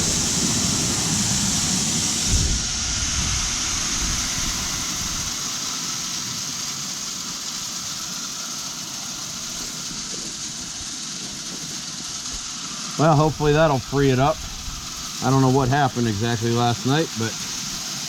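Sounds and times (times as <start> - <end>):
grain pouring with rushing hiss: 0.0 - 18.0.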